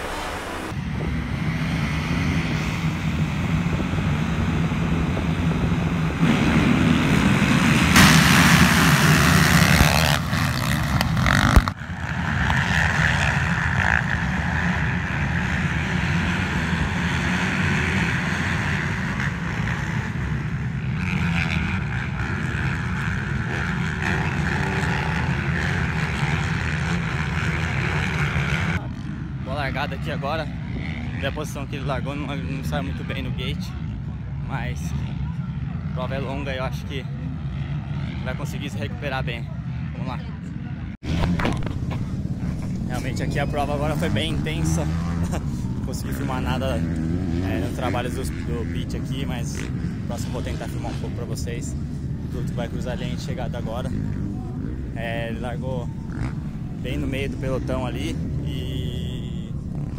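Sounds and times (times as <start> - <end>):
bikes racing engine sound: 0.0 - 59.9
motocross bikes revving: 0.0 - 59.9.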